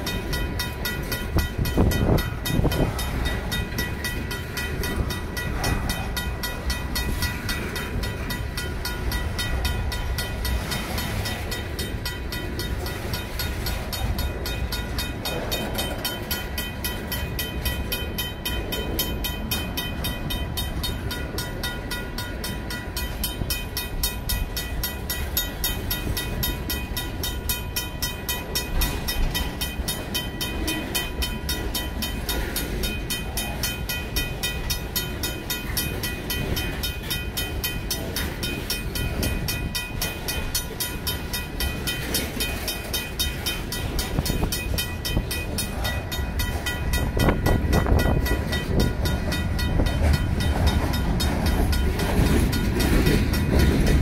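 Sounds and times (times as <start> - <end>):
crossing bell ringing: 0.0 - 54.0
train wheels clattering on rail: 0.0 - 54.0.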